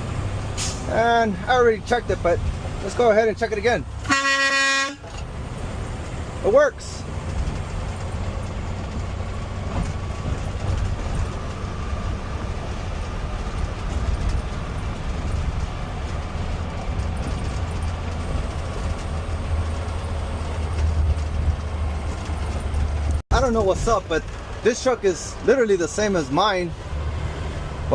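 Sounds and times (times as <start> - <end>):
road noise: 0.0 - 27.9
truck engine rumble: 0.0 - 27.9.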